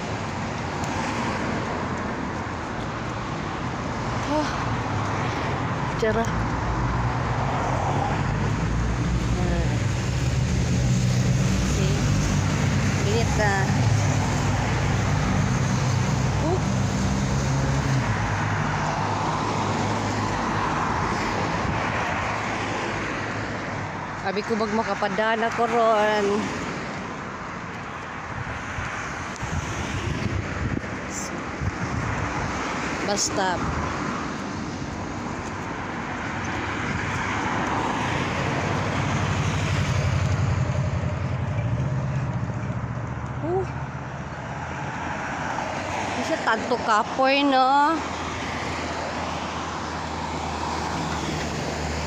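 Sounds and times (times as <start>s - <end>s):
cars driving past: 0.0s - 52.0s.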